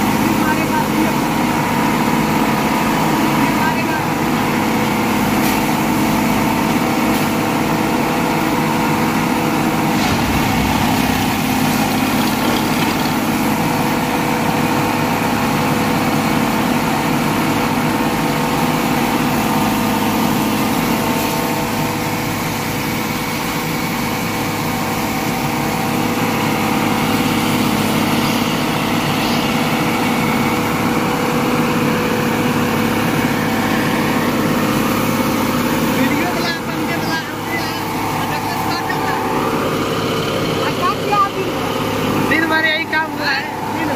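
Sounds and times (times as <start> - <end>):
track machine engine drone: 0.0 - 43.9.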